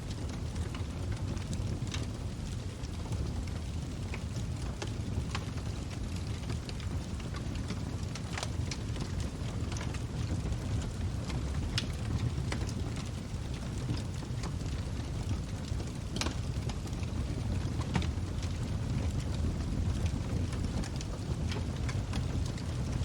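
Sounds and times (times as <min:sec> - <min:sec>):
log fire crackling: 0:00.0 - 0:23.0.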